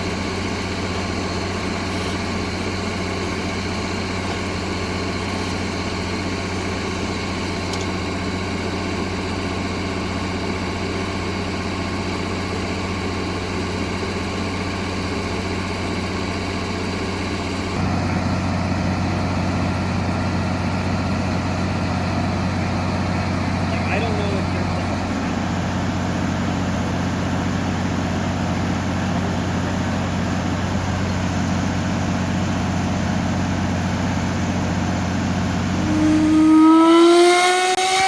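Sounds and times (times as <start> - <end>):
engine drone: 0.0 - 38.0.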